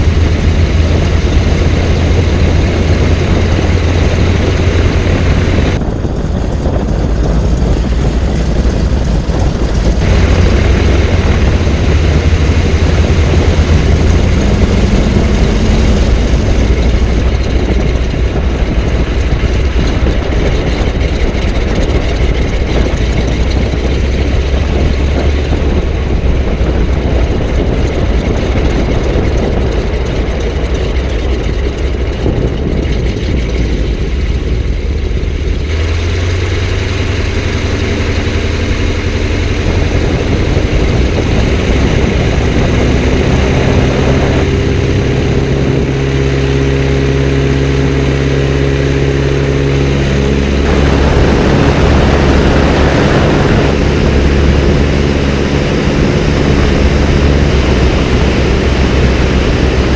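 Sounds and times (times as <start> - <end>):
propeller plane engine running: 0.0 - 59.9.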